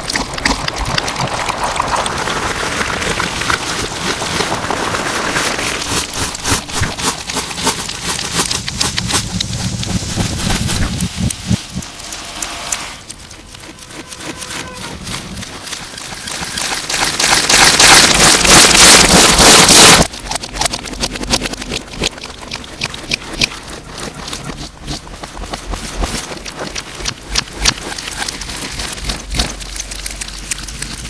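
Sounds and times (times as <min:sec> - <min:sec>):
slime squishing with wet crackles: 0:00.0 - 0:31.0.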